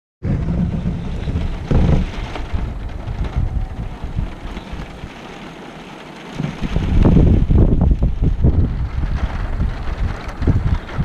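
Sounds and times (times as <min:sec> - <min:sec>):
wind gusting over microphone: 0:00.2 - 0:11.0.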